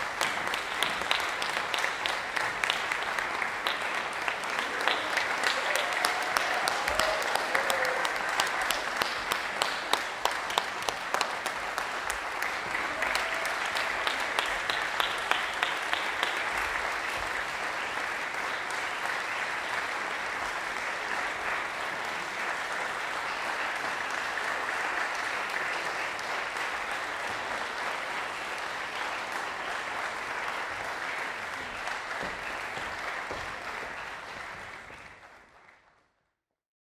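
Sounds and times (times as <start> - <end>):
audience applauding: 0.0 - 36.1.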